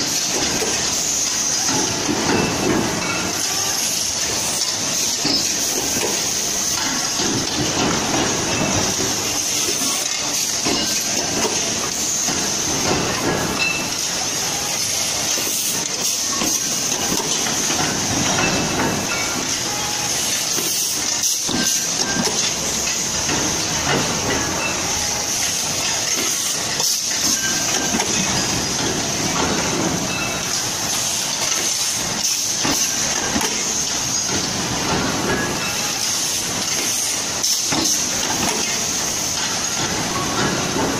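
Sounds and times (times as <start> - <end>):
dense mechanical clatter: 0.0 - 40.9.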